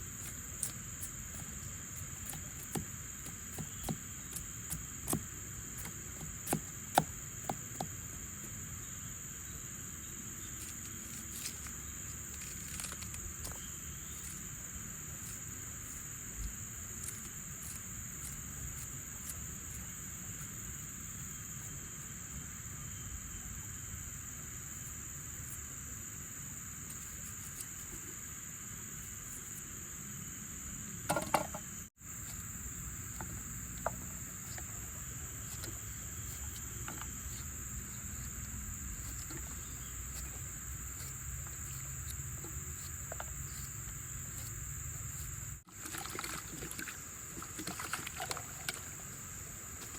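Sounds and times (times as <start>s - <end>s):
insect chorus buzzing trill: 0.0s - 49.9s.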